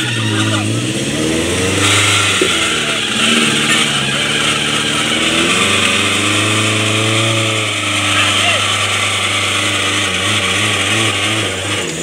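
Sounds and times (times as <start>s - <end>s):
car engine working under load: 0.0s - 12.0s.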